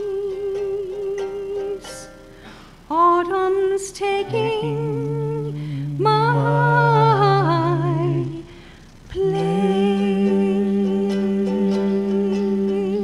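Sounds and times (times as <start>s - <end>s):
man and woman singing in harmony: 0.0s - 13.0s
ukulele chord strummed: 0.0s - 13.0s.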